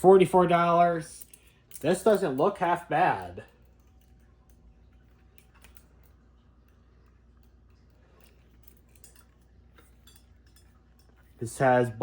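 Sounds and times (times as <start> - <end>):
faint light clicks of parts handled: 1.2 - 11.4.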